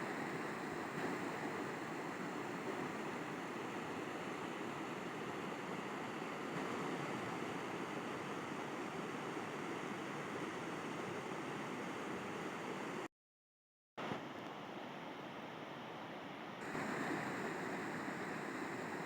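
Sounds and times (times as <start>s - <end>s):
river water flowing: 0.0s - 13.0s, 14.2s - 19.0s.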